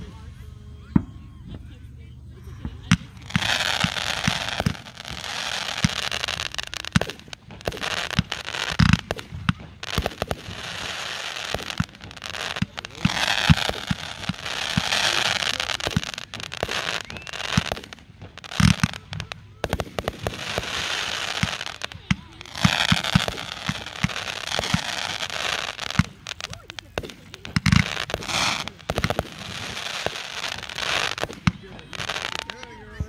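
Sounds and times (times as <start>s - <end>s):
firework aerial bursts: 0.0s - 33.0s
fireworks crackling and hissing: 0.0s - 33.0s
heavy firework booms: 2.6s - 32.5s.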